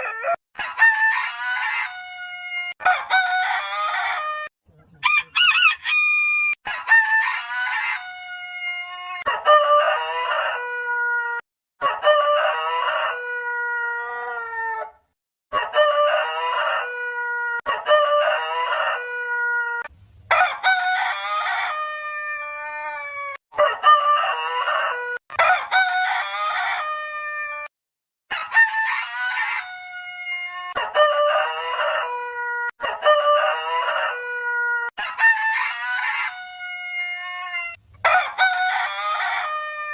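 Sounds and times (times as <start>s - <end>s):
rooster crowing: 0.0s - 27.7s, 28.3s - 39.9s.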